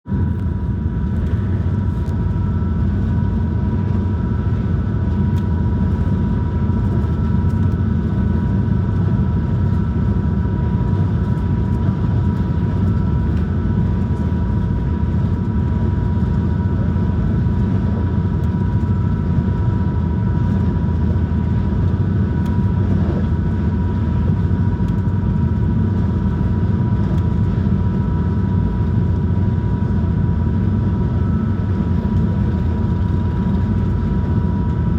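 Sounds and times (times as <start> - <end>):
steady high engine whine: 0.0 - 34.9
ferry engines low rumble: 0.1 - 34.9.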